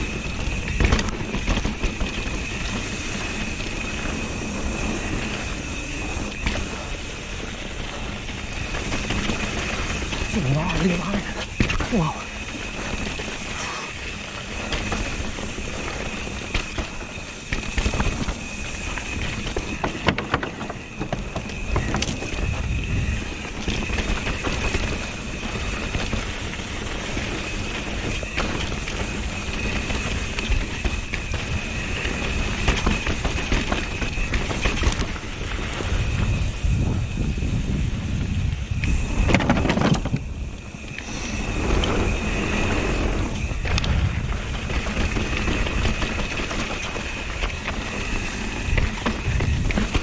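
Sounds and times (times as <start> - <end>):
tyres rumbling over stones: 0.0 - 36.8, 38.9 - 50.0
bike rattling and knocking: 0.0 - 50.0
wind buffeting microphone: 0.0 - 50.0.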